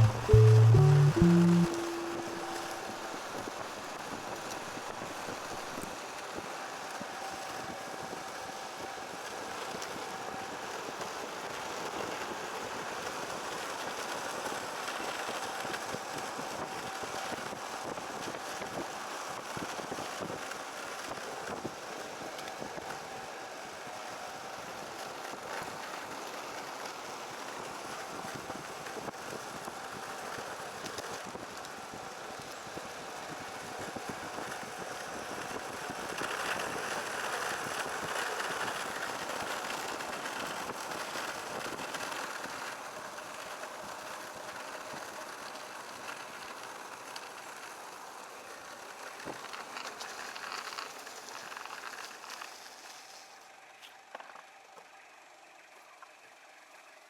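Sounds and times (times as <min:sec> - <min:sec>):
longboard wheels rolling on asphalt: 0:05.2 - 0:57.0.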